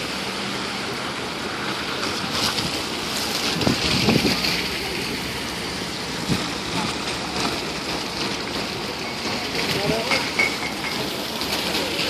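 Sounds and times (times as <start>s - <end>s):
passing vehicles: 0.0s - 12.0s.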